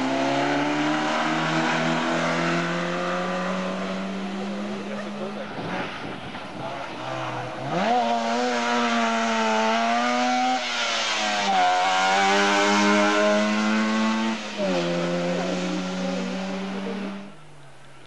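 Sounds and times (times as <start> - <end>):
two-stroke car engine at full throttle: 0.0 - 17.4.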